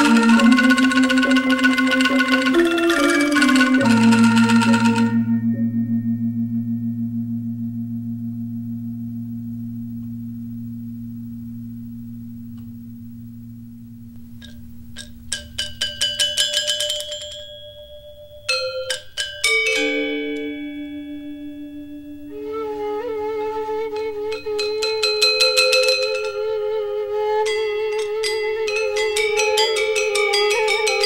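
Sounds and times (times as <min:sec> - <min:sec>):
metallophone strikes: 0:00.0 - 0:22.5, 0:23.9 - 0:26.8.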